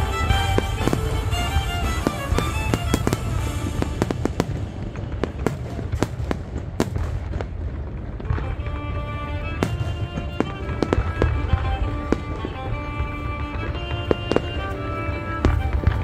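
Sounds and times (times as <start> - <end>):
fireworks bangs and cracks: 0.0 - 16.0
music: 0.0 - 16.0.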